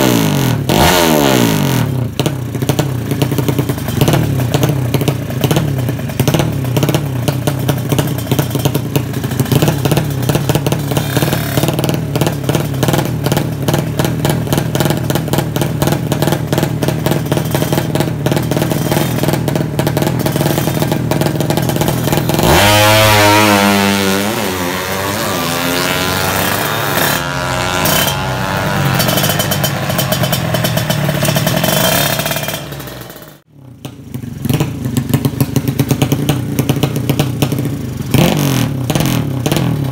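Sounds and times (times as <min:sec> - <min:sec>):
motorcycle engine running and revving: 0:00.0 - 0:39.9.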